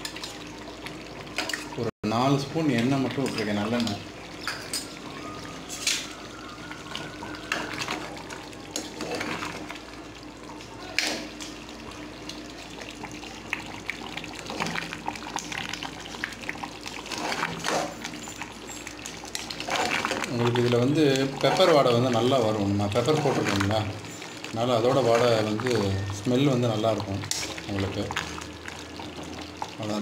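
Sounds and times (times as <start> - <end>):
thick gravy bubbling and popping: 0.0 - 30.0
ladle stirring: 2.7 - 9.8, 12.3 - 29.8.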